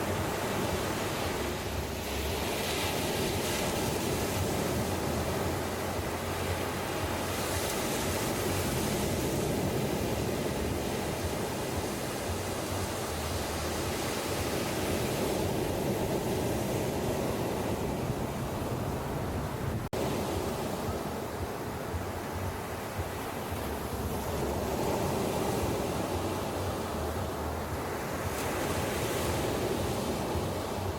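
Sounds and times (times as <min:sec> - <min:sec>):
ocean surf washing onto beach: 0:00.0 - 0:30.9.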